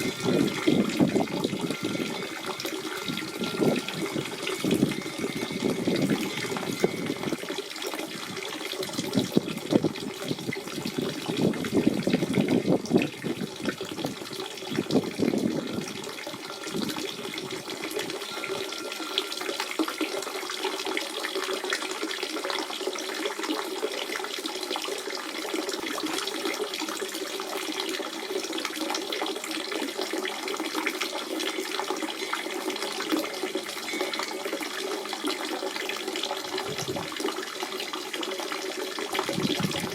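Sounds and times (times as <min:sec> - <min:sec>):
spring water running and splashing: 0:00.0 - 0:39.9.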